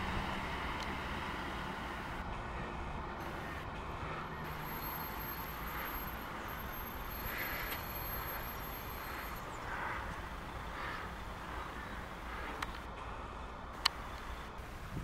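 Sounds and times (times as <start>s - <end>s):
diesel bus engine rumbling: 0.0s - 15.0s
street traffic: 0.0s - 15.0s.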